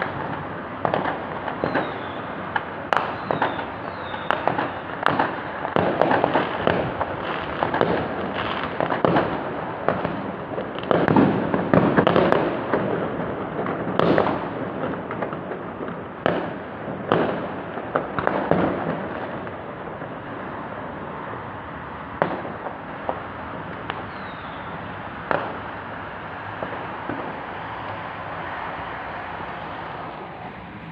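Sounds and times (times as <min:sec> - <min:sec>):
fireworks bangs and crackles: 0:00.0 - 0:30.9
rumble of fireworks: 0:00.0 - 0:30.9.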